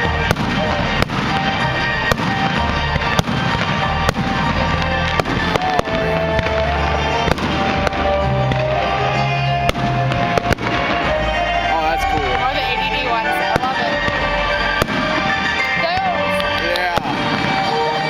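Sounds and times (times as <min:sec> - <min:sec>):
firework whistle: 0:00.0 - 0:18.0
fireworks bangs: 0:00.0 - 0:18.0
music: 0:00.0 - 0:18.0.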